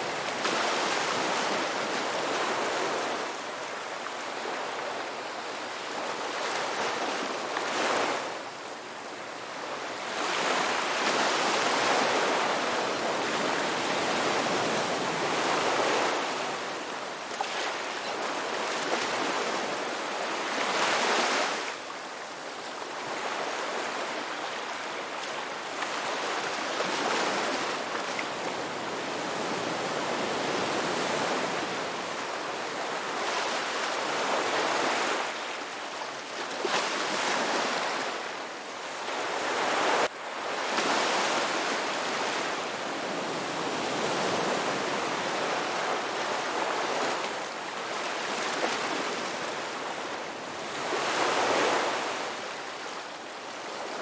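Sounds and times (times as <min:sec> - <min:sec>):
ocean waves breaking on shore: 0:00.0 - 0:08.5, 0:09.2 - 0:54.0.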